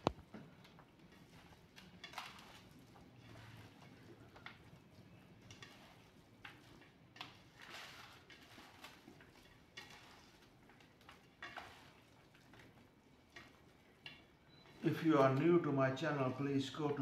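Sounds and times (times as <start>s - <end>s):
hands kneading wet marinade: 0.0s - 17.0s.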